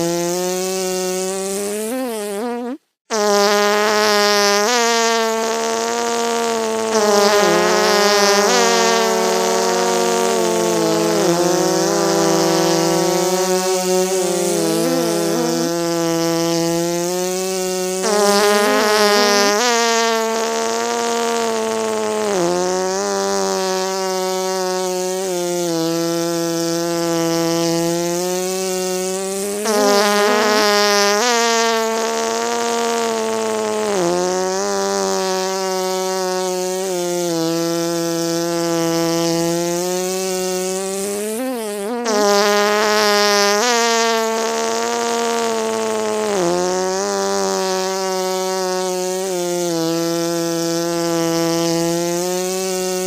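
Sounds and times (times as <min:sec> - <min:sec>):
honey bee buzzing: 0:00.1 - 0:25.5, 0:26.5 - 0:33.1, 0:38.7 - 0:53.0.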